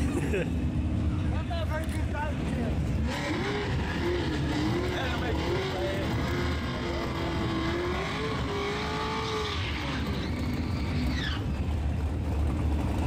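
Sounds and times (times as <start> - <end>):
car engines rumbling: 0.0 - 13.0
engine note climbing: 0.0 - 13.0.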